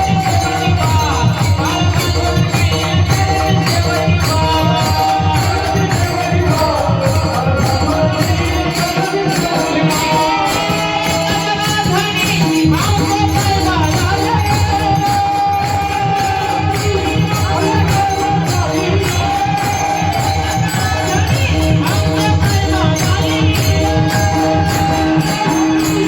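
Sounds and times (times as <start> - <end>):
jingling percussion: 0.0 - 26.0
steady drum beat: 0.0 - 26.0.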